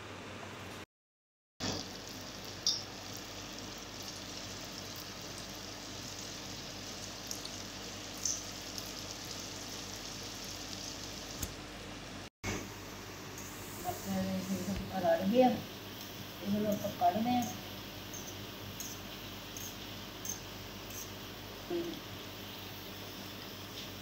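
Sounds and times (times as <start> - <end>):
potato sticks sizzling in oil: 1.6 - 11.6, 13.4 - 24.0.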